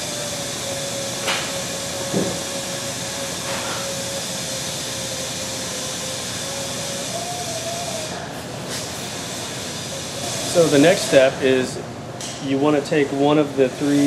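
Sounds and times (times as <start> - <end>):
thin steady whine: 0.0 - 14.0.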